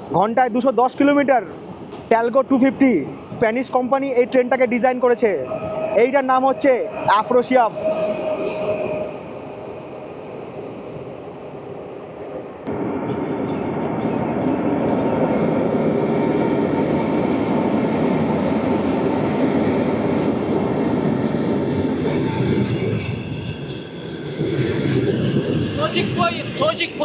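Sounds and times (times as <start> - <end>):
train wheels rumbling on rail: 1.5 - 27.0.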